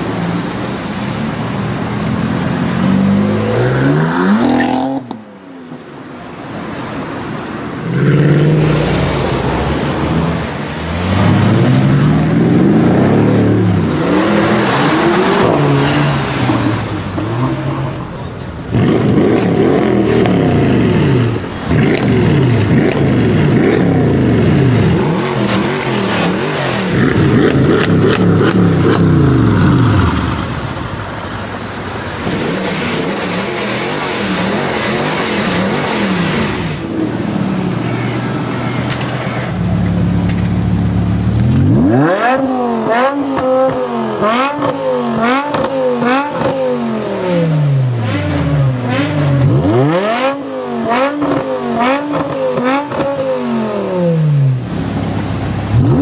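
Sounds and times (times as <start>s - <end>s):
car engine idling and revving: 0.0s - 56.0s
car engines accelerating hard: 0.0s - 56.0s.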